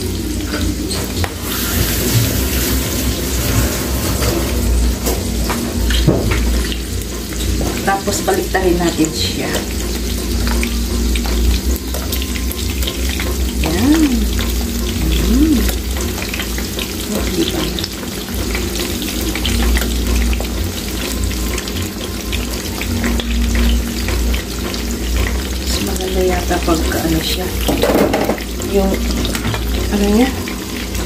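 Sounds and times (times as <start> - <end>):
shrimp deep-frying in oil: 0.0 - 31.0.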